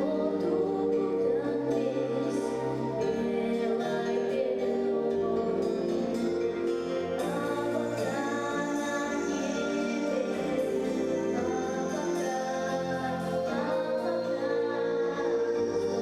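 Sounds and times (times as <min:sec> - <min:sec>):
children's group singing: 0:00.0 - 0:16.0
instrumental backing music: 0:00.0 - 0:16.0.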